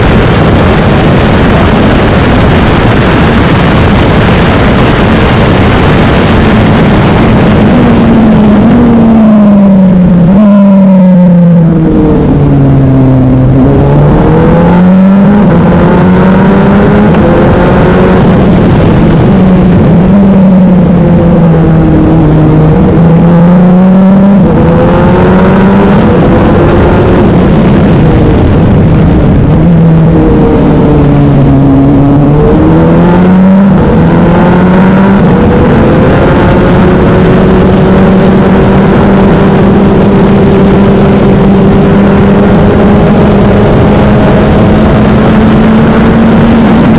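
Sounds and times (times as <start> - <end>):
race car engine: 0.0 - 46.9.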